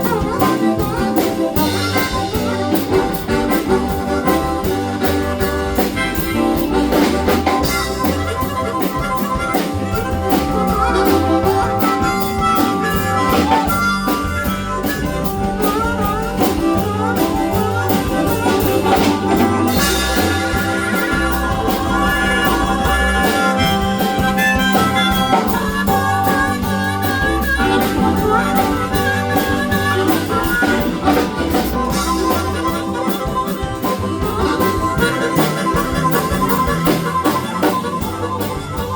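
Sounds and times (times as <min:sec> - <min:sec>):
acoustic band playing: 0:00.0 - 0:38.9.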